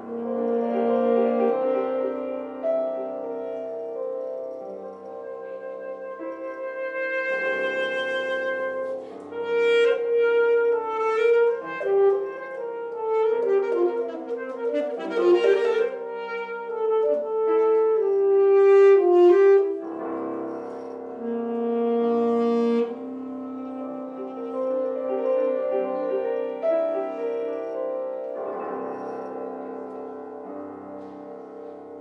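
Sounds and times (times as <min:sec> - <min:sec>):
alto saxophone melody: 0:00.0 - 0:28.4
piano accompaniment: 0:00.0 - 0:32.0.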